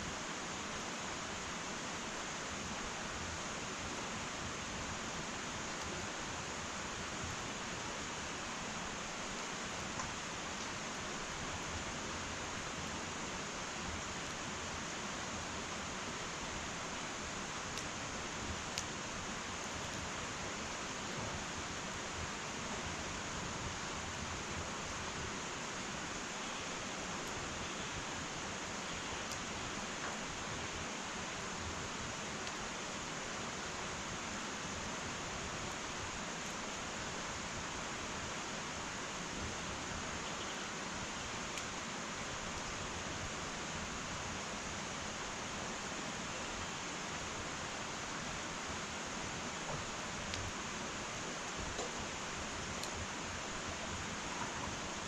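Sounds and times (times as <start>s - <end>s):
fire crackles: 0.0s - 55.0s
wood fire hissing: 0.0s - 55.0s.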